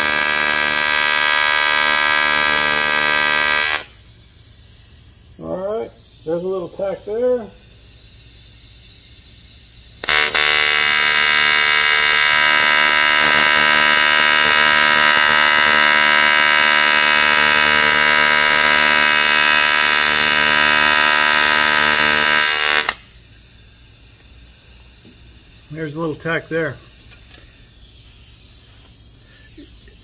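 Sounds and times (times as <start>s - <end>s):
welding arc buzzing: 0.0s - 5.4s, 6.0s - 30.0s.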